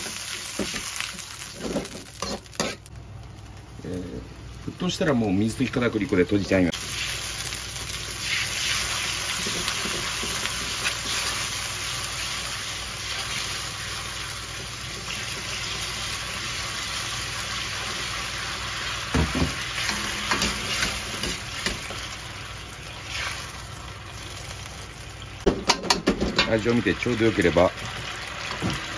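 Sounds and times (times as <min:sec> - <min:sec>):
sauce bubbling and sizzling: 0:00.0 - 0:28.9.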